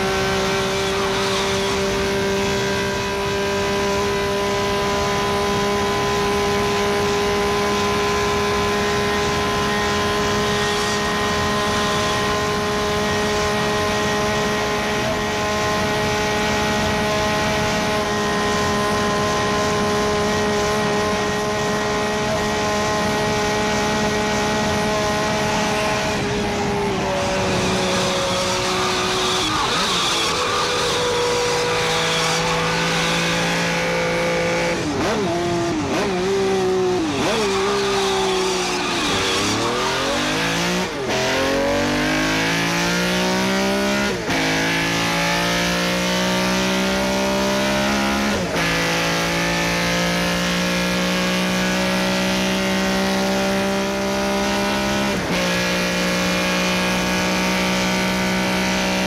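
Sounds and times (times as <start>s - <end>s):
car engine revving hard: 0.0s - 59.0s.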